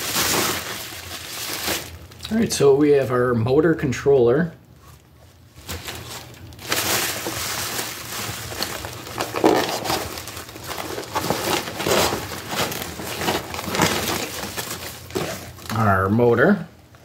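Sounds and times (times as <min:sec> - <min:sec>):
bubble wrap crinkling: 0:00.0 - 0:02.7, 0:04.8 - 0:16.1.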